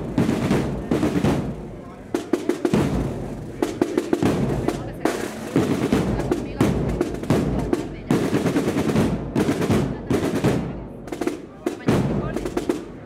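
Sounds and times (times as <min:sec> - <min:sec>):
snare drum rolls: 0:00.0 - 0:13.0.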